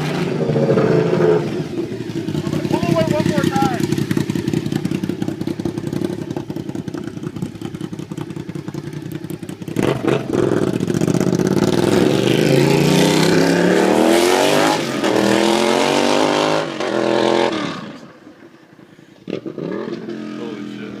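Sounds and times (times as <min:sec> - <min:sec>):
motorcycle engine revving: 0:00.0 - 0:18.5, 0:19.2 - 0:21.0.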